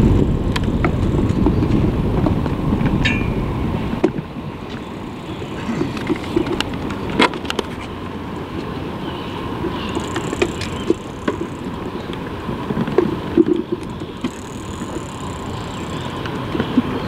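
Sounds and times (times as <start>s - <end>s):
sea noise: 0.0s - 17.0s
wind: 0.0s - 17.0s.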